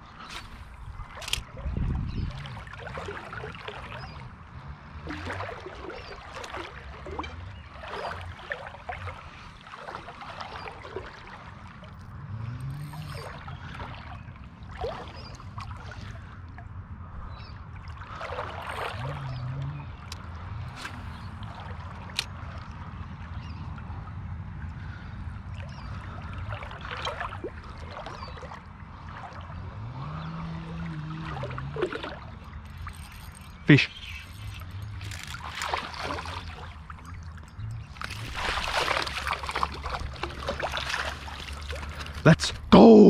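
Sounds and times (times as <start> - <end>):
river water splashing: 0.0 - 43.0.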